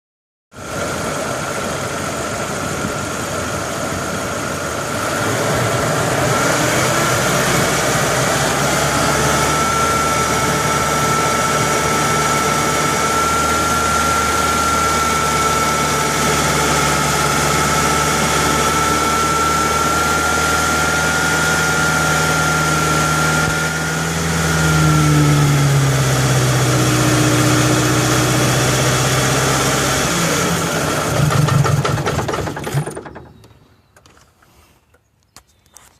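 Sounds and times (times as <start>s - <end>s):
high steady whine: 0.6s - 31.2s
engine running: 0.6s - 34.2s.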